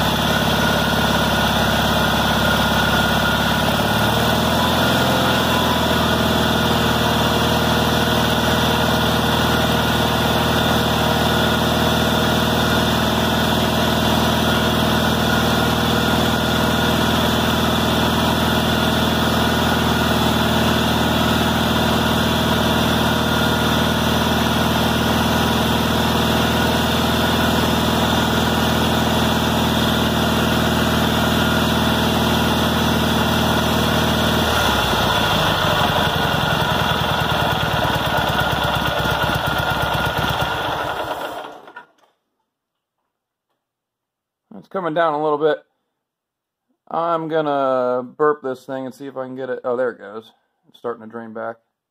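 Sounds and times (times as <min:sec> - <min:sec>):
garden tractor engine running: 0:00.0 - 0:41.9.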